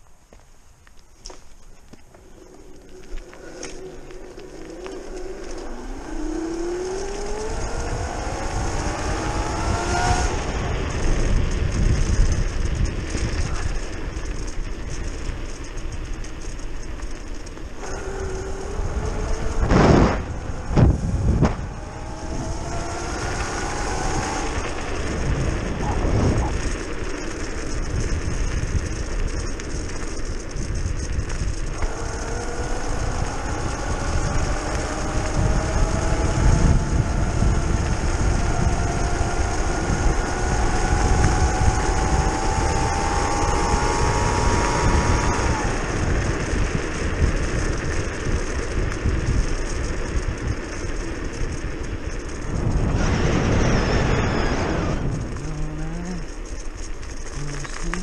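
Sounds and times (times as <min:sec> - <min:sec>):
tyre rumble: 0:00.0 - 0:58.0
wind noise on microphone: 0:00.7 - 0:58.0
electric motor whine rising in pitch: 0:02.1 - 0:58.0.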